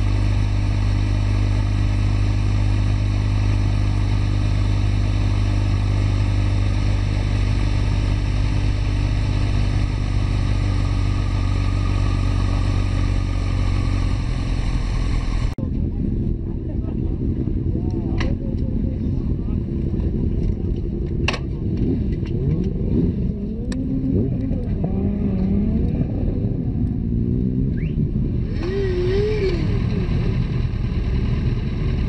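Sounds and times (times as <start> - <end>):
motorcycle engine running: 0.0 - 32.0
road noise: 0.0 - 32.0.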